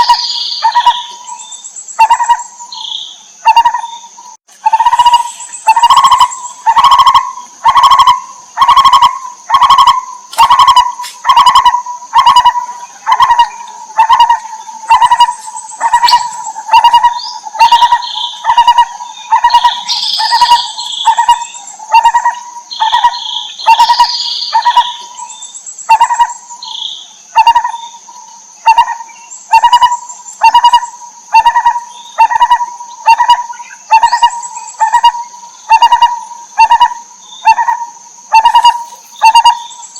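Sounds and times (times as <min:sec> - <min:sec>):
high-pitched insect drone: 0:00.0 - 0:39.9
higher bird chirps: 0:00.0 - 0:39.9.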